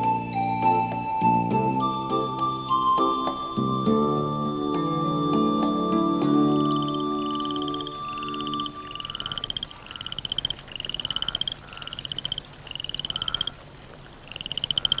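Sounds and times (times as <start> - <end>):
frogs calling: 2.3 - 15.0.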